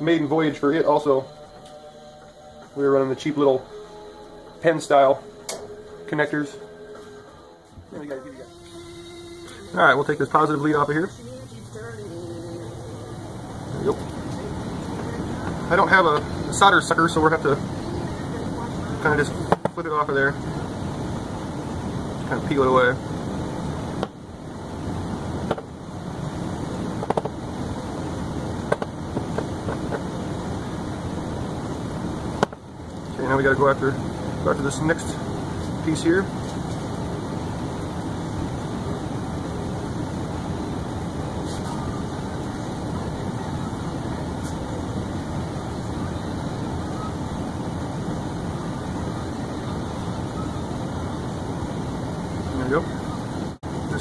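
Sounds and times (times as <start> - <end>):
background hiss: 0.0 - 54.0
steady low background noise: 0.0 - 54.0.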